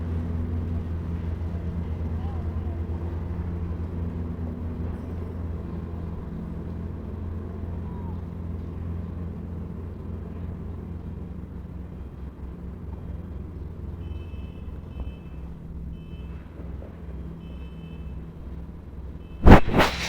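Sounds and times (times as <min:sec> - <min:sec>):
diesel machinery engine running: 0:00.0 - 0:20.0.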